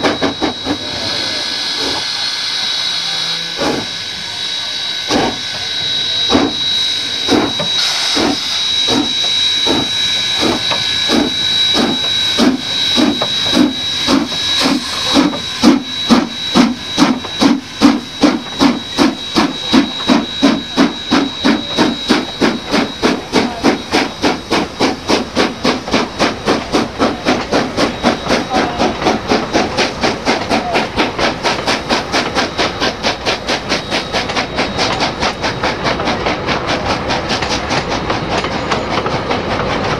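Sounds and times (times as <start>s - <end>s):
steam hiss: 0.0s - 39.9s
steam locomotive exhaust beats: 0.0s - 39.9s.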